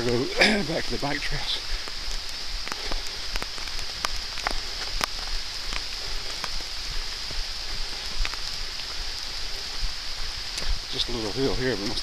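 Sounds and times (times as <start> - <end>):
bike tyres hissing on dirt: 0.0 - 12.0.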